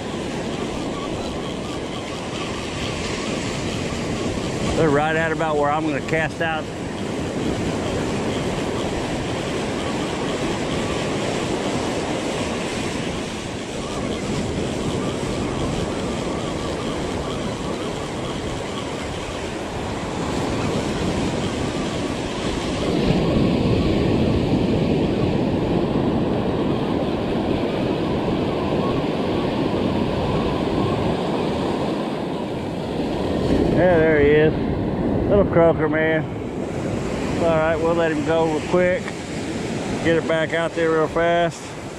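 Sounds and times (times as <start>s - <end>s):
ocean surf washing up beach: 0.0s - 41.9s
wind on microphone: 0.0s - 41.9s.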